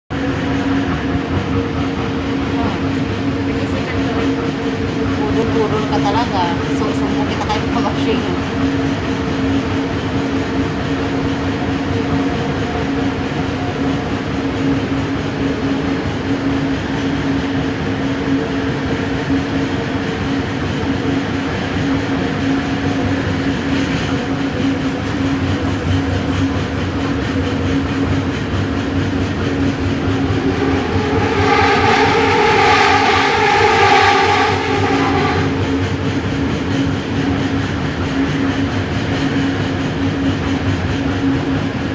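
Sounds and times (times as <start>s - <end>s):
metro train running rumble: 0.1s - 41.9s
passing train rush and whine: 0.1s - 41.9s.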